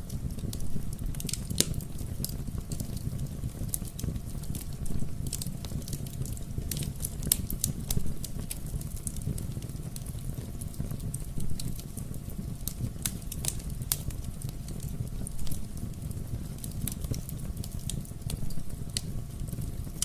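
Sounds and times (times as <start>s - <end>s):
fire crackling with pops: 0.0s - 20.0s
low rumble of flames: 0.0s - 20.0s.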